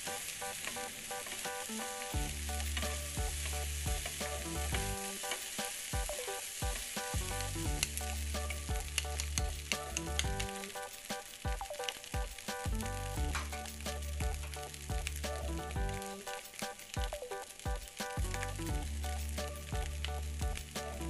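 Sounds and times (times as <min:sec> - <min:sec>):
rice and vegetables sizzling: 0:00.0 - 0:21.0
background music with bass: 0:01.6 - 0:05.2, 0:06.0 - 0:10.8, 0:11.5 - 0:21.0.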